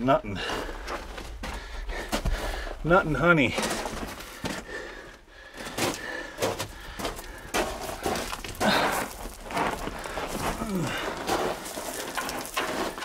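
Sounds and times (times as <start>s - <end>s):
footsteps crunching on rock rubble: 0.0s - 13.0s.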